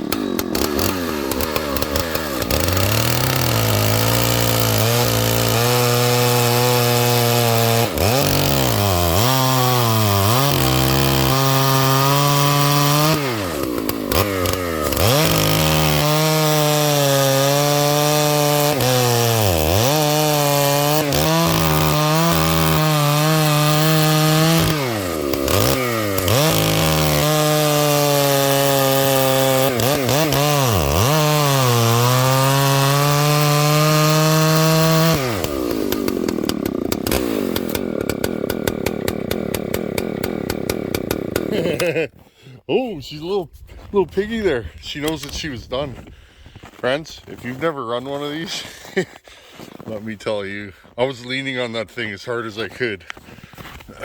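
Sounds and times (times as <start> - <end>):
chainsaw cutting wood: 0.0 - 42.5, 44.0 - 54.0.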